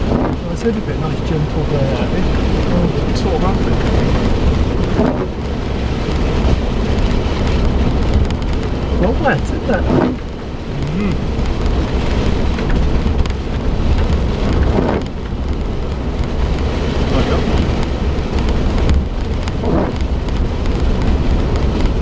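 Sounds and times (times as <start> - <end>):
engine and tyres rumbling: 0.0 - 22.0
rain and water splashing on car: 0.0 - 22.0.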